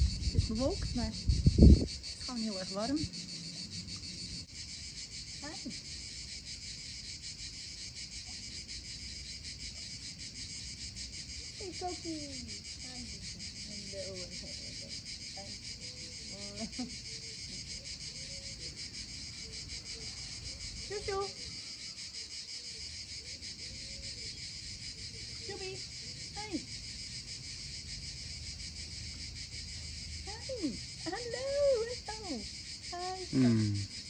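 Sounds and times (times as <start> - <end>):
insects buzzing: 0.0 - 34.0.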